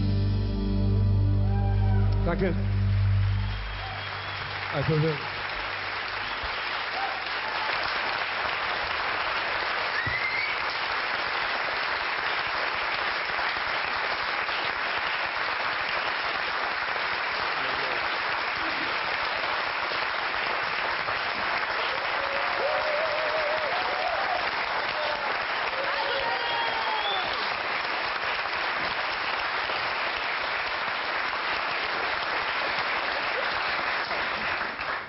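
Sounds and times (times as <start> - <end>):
audience applauding: 1.4 - 35.0.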